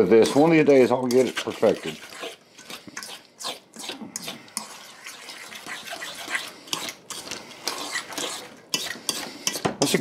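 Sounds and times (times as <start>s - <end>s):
fork scraping metal bowl: 0.0s - 10.0s.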